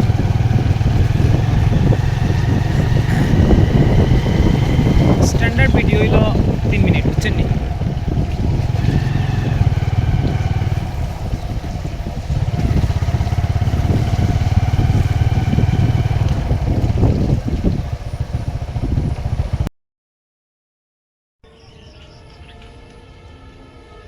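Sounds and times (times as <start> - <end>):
vehicle engine running: 0.0 - 19.7.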